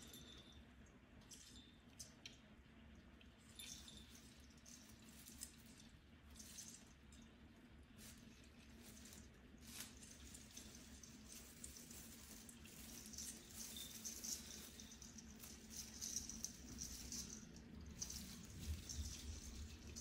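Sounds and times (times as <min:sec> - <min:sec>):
low steady hum: 0:00.0 - 0:20.0
tree branches and tinsel rustling: 0:03.2 - 0:20.0.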